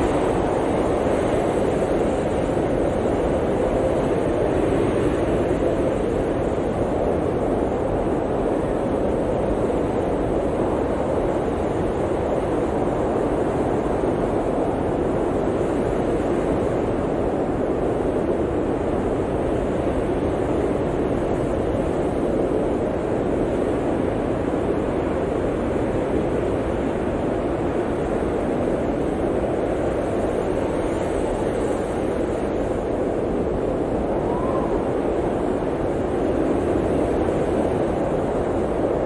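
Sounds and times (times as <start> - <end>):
blizzard wind blowing: 0.0 - 39.0.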